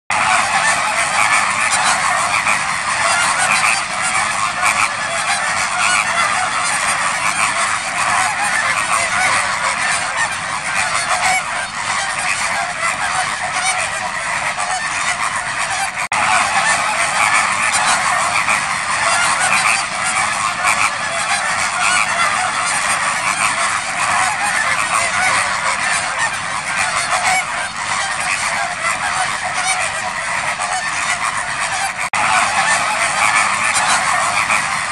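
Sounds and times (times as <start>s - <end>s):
waterbirds honking: 0.1s - 34.9s.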